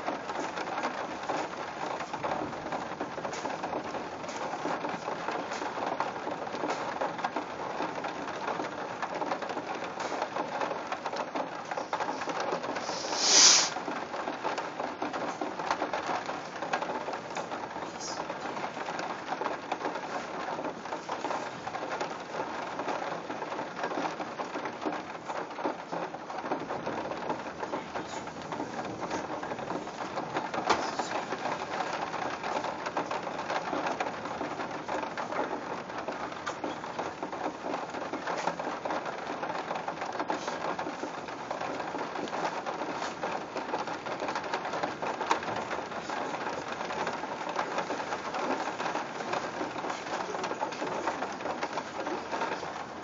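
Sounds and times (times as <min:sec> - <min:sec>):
raindrops ticking on surfaces: 0:00.0 - 0:53.0
steady rain falling: 0:00.0 - 0:53.0.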